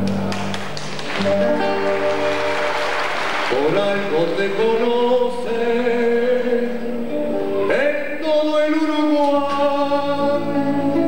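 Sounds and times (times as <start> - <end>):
music with long sung notes: 0.0 - 11.0.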